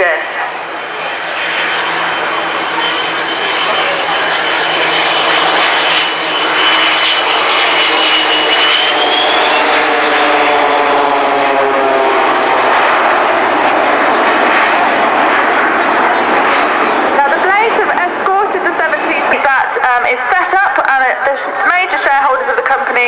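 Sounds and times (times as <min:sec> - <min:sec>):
jet aircraft roar with high whine: 0:00.0 - 0:23.0
propeller aircraft engines: 0:00.0 - 0:23.0.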